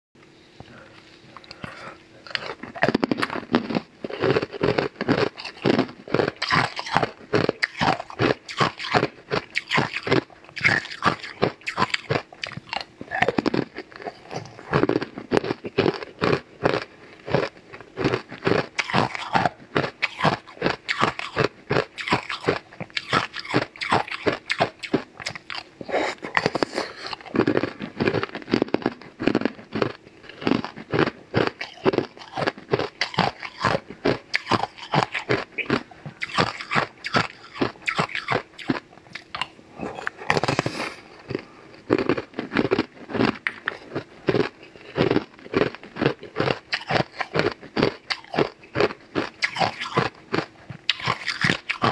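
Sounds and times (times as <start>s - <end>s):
teeth crunching ice: 1.4s - 25.7s, 26.3s - 51.9s.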